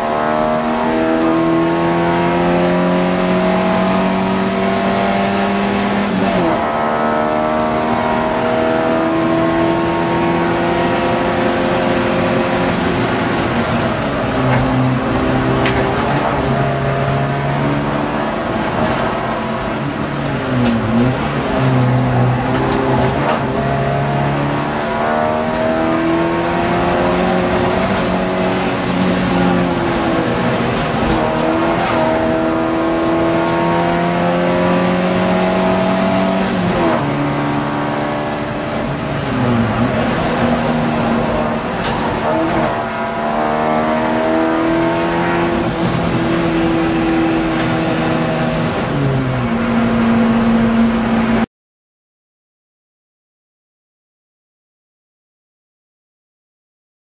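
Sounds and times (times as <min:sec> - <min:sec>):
race car engine revving through gears: 0:00.0 - 0:51.5.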